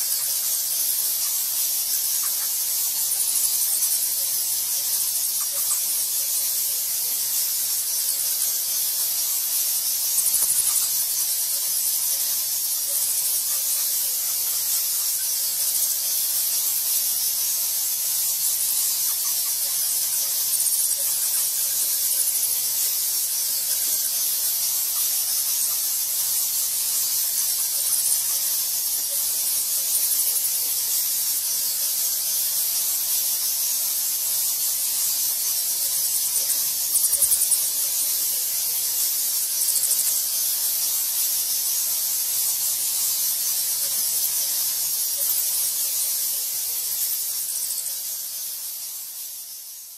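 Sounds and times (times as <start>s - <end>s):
bats squeaking: 0.0s - 49.9s.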